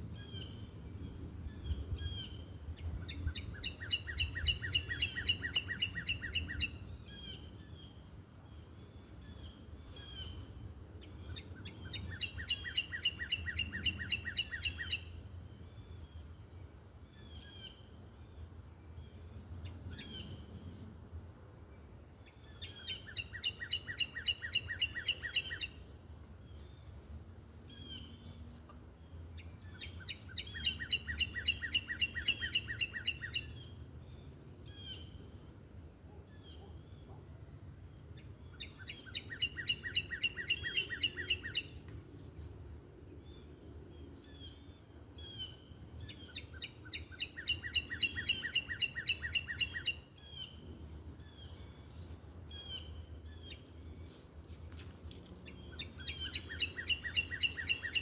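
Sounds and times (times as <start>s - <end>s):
songbird chirping: 0.0s - 20.8s, 21.4s - 58.0s.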